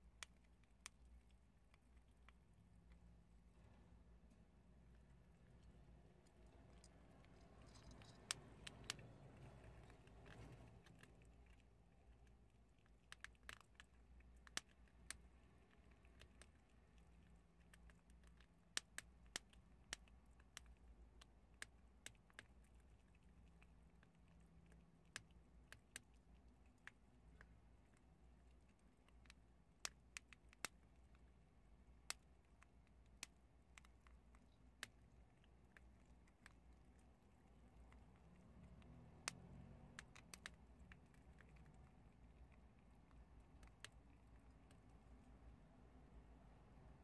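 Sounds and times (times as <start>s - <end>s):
animals chewing crunchy beans: 0.0s - 45.7s
faint low hum: 0.0s - 47.0s.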